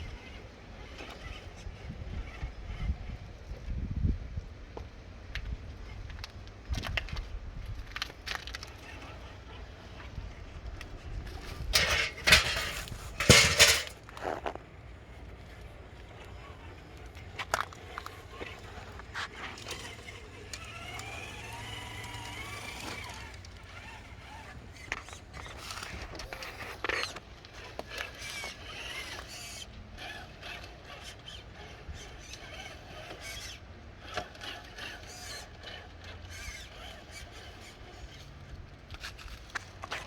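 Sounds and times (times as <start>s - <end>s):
small electric motor whining: 0.0s - 3.8s, 5.7s - 40.0s.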